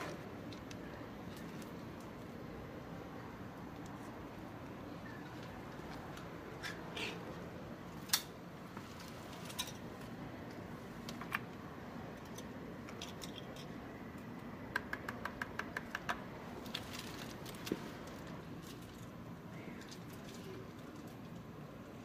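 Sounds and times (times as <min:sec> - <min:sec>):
steady low hiss: 0:00.0 - 0:22.0.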